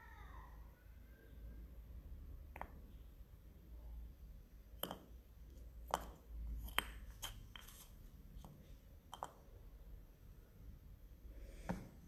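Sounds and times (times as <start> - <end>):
faint low room hum: 0.0 - 12.0.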